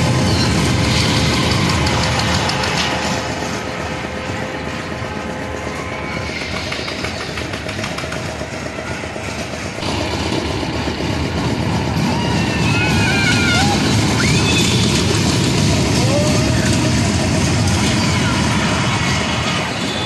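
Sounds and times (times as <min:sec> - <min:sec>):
train wheels rumbling on rail: 0:00.0 - 0:20.0
wheels clacking: 0:00.0 - 0:20.0.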